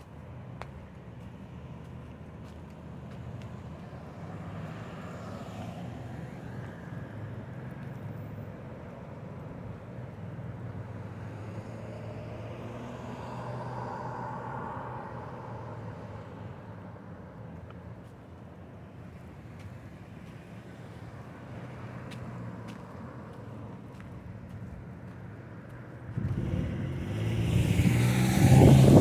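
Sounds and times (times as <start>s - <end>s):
road traffic rumble: 0.0s - 29.0s
vehicles passing: 0.0s - 29.0s.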